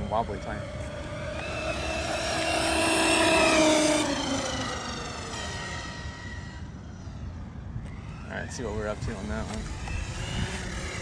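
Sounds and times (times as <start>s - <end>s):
rc truck motor whine: 0.0s - 11.0s.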